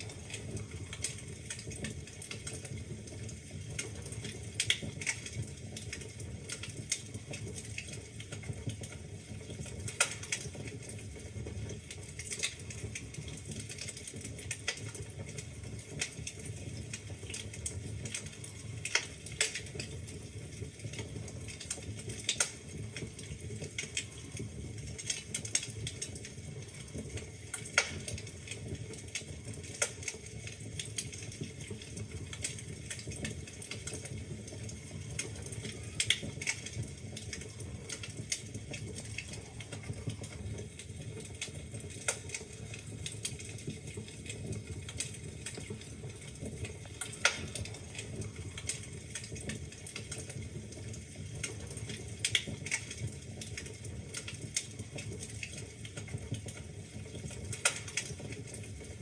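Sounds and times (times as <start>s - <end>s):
logs crackling and popping: 0.0s - 59.0s
wood fire burning: 0.0s - 59.0s.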